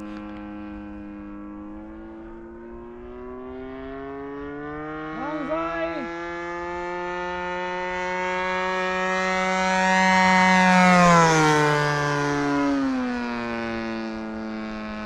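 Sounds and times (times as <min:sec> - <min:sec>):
model plane engine passing by: 0:00.0 - 0:15.0.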